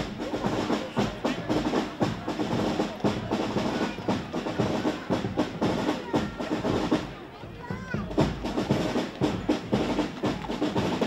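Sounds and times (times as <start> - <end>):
marching drum band: 0.0 - 11.0.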